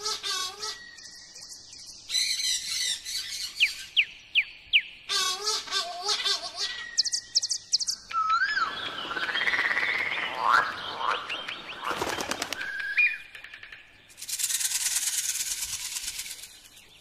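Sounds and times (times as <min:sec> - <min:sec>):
birds calling with whistled notes: 0:00.0 - 0:17.0.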